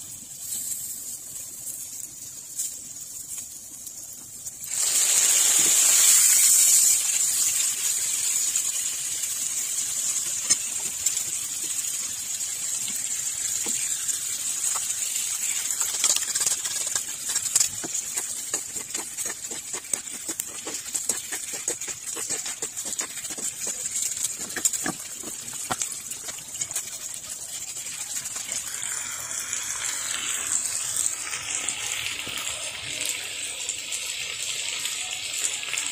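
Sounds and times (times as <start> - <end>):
food sizzling in a frying pan: 0.0 - 35.9.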